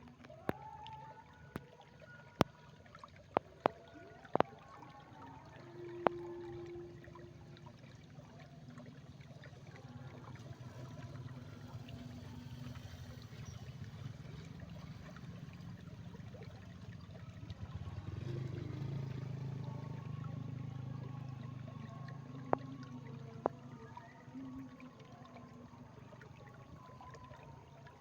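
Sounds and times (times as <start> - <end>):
water flowing: 0.0 - 28.0.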